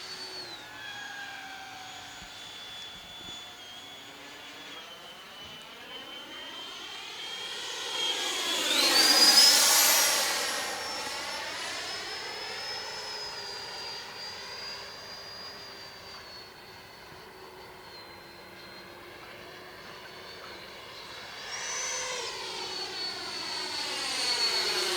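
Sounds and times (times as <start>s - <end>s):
model jet fan whine passing: 0.0s - 24.9s.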